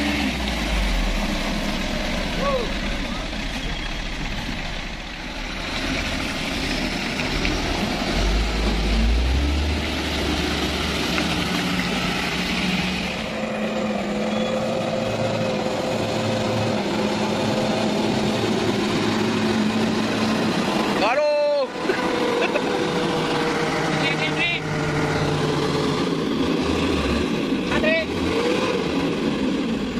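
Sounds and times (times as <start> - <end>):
diesel truck engines under load: 0.0 - 29.9.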